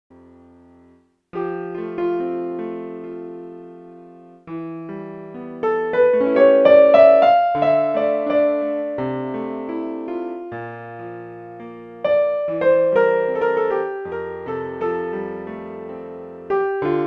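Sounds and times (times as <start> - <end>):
solo piano music: 0.1 - 17.0.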